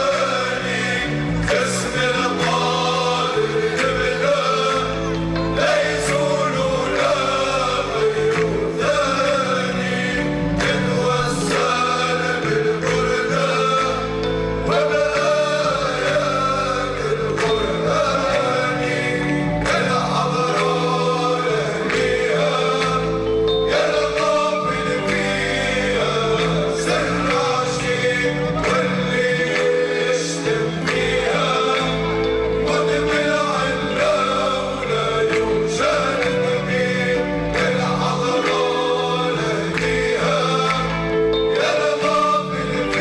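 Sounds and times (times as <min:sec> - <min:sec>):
men's choir chanting: 0:00.0 - 0:43.0.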